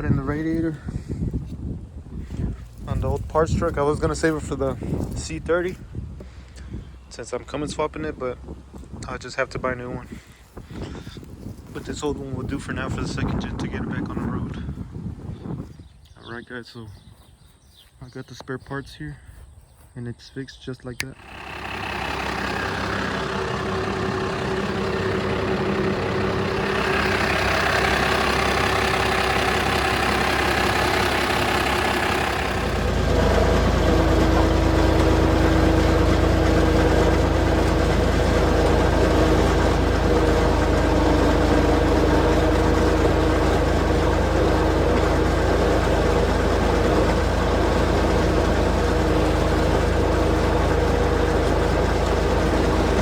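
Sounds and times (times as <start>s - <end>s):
vehicle engine running: 0.0s - 15.2s, 21.1s - 53.0s.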